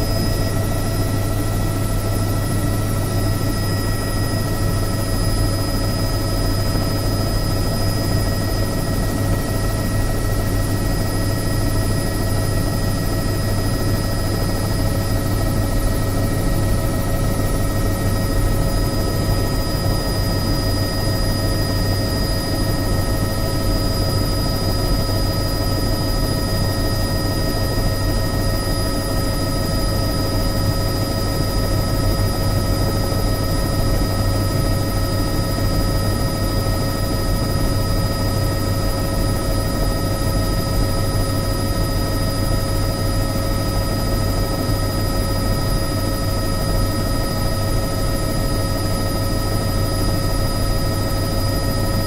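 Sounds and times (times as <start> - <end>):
helicopter running: 0.0 - 52.0.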